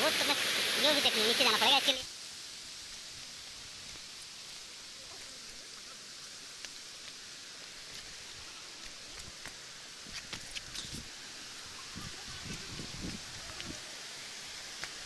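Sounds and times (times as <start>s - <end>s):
leaves and branches rustling: 0.0s - 15.0s
waterfall and stream hissing: 0.0s - 15.0s.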